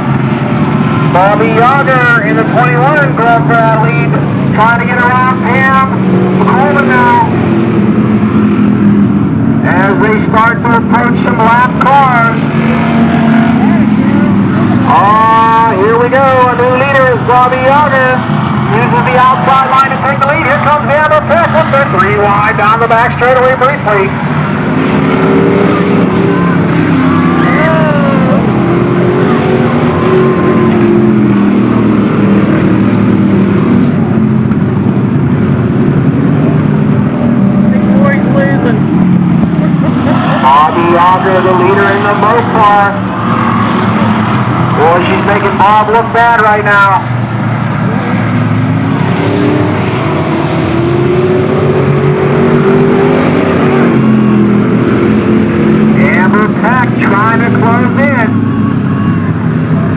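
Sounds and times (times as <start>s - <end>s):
race car engines passing: 0.0s - 59.9s.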